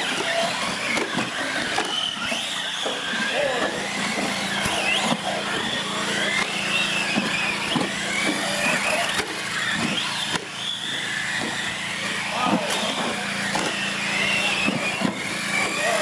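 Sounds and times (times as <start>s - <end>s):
electric toy car motors whining: 0.0s - 16.0s.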